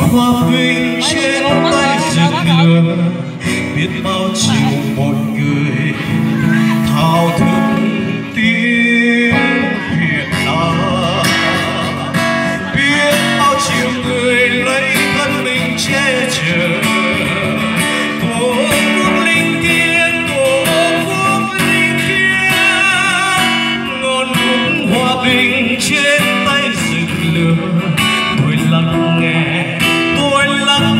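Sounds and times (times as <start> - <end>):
acoustic guitar: 0.0 - 30.9
man singing into microphone: 0.0 - 30.9.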